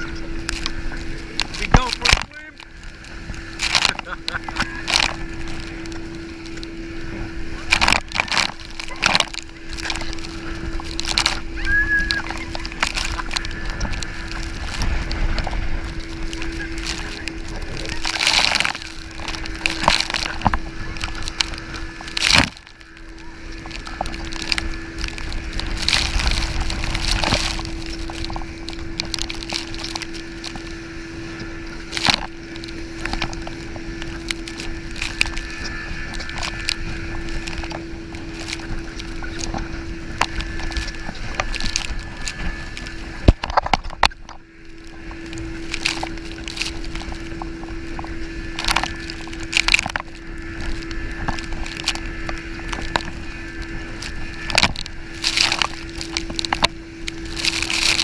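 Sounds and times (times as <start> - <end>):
engine hum: 0.0 - 58.0
water splashing on camera: 0.0 - 58.0
wind rushing over camera: 0.0 - 58.0.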